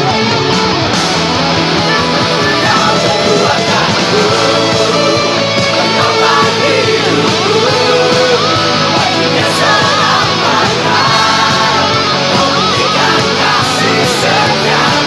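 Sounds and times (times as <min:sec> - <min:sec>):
lead guitar with bent notes: 0:00.0 - 0:15.0
rock band backing track: 0:00.0 - 0:15.0.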